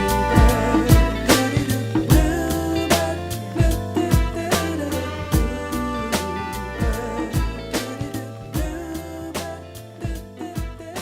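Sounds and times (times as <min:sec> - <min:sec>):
instrumental soul music: 0:00.0 - 0:11.0.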